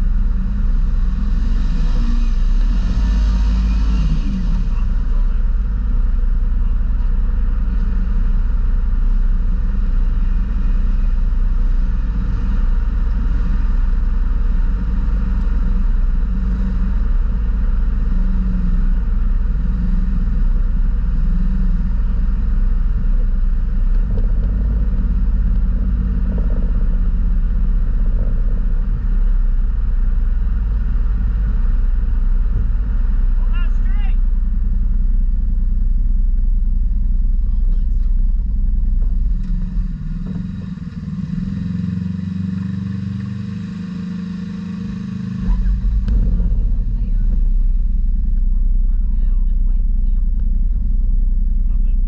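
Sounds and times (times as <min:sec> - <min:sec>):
utility vehicle engines running: 0:00.0 - 0:52.0.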